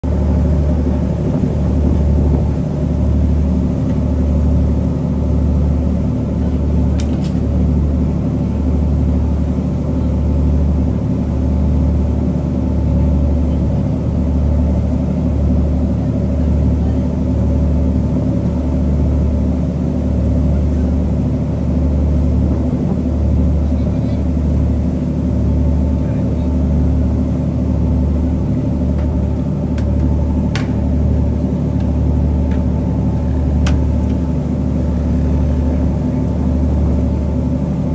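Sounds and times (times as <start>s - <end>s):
low engine rumble: 0.0s - 37.9s.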